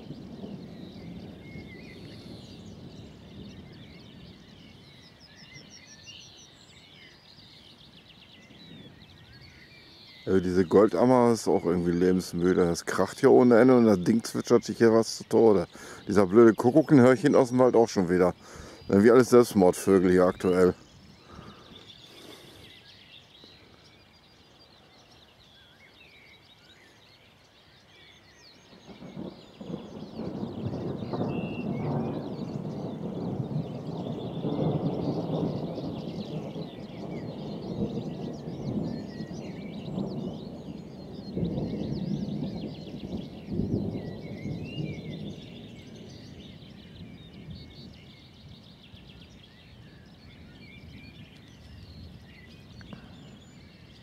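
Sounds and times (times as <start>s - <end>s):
distant thunder rumbling: 0.0s - 6.1s, 8.3s - 22.8s, 28.5s - 54.0s
birdsong: 0.0s - 54.0s
soft outdoor hiss: 0.0s - 54.0s
songbirds chirping: 0.0s - 54.0s.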